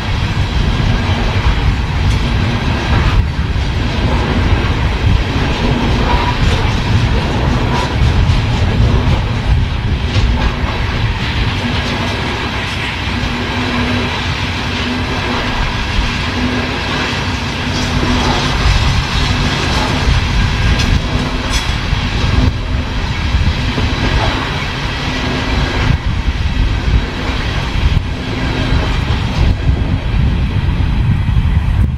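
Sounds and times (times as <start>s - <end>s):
clickety-clack over rail joints: 0.0s - 31.9s
train wheels rumbling on rails: 0.0s - 31.9s.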